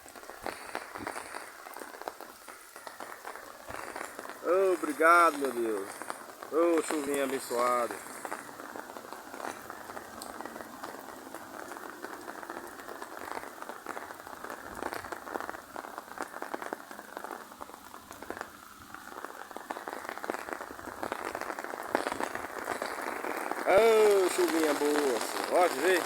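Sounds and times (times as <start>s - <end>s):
rain on hard surfaces: 0.0s - 26.0s.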